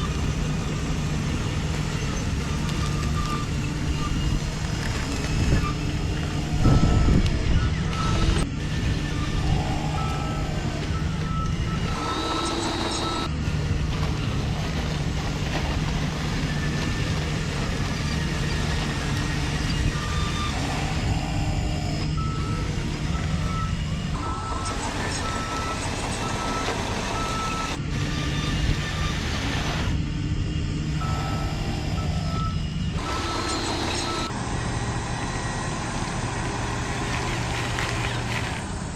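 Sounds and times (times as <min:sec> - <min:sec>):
motor humming: 0:00.0 - 0:38.9
truck reversing beeper: 0:00.0 - 0:38.9.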